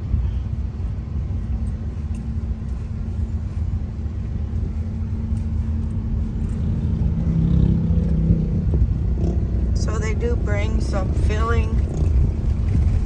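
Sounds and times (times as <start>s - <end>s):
car driving on unpaved road: 0.0s - 13.0s.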